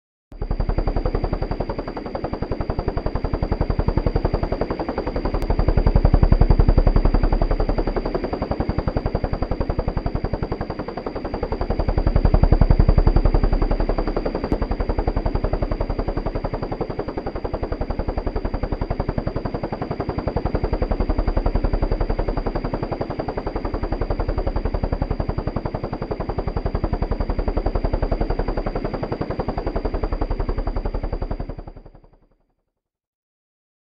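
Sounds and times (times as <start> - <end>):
helicopter rotor chop: 0.4 - 32.2.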